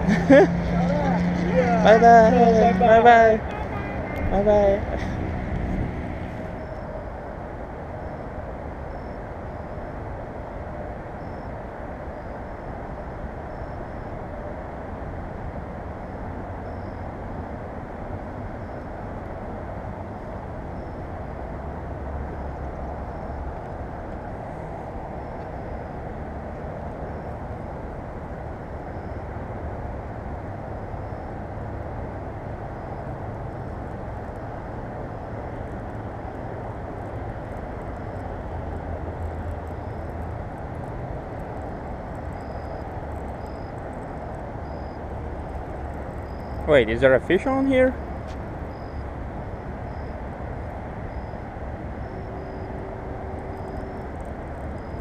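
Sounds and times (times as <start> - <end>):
distant road traffic rumble: 0.0 - 55.0.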